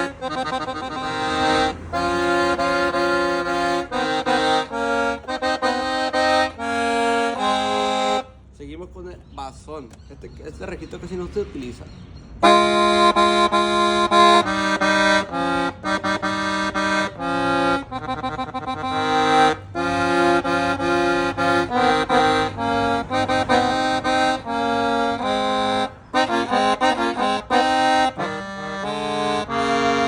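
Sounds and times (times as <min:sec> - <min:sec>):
accordion playing low tune: 0:00.0 - 0:08.4, 0:12.4 - 0:30.0.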